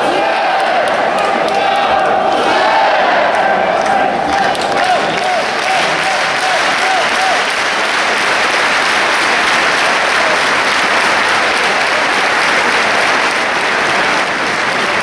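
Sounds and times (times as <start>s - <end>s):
crowd applauding: 0.0s - 2.2s, 3.2s - 15.0s.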